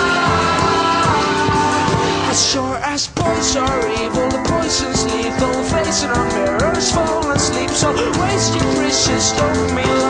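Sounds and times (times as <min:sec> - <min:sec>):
song with voice holding long note: 0:00.0 - 0:10.0.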